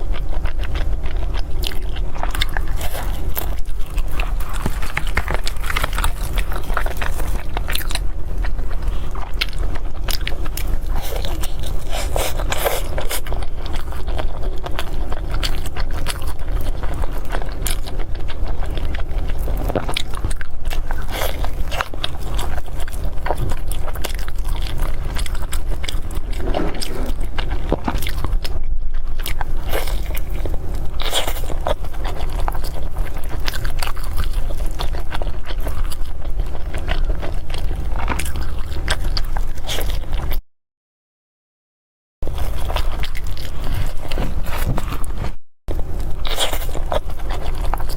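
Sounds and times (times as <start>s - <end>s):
steady low hum: 0.0s - 40.3s, 42.2s - 47.9s
chewing and smacking: 0.0s - 40.4s, 42.2s - 47.9s
food crunches: 0.0s - 40.4s, 42.3s - 47.9s.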